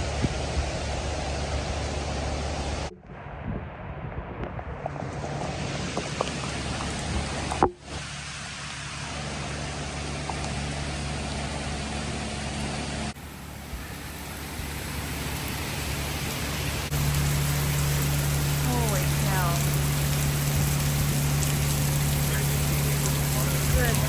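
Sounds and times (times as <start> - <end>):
heavy rain and wind rushing: 0.0 - 12.0, 13.0 - 24.0
low hum: 0.0 - 24.0.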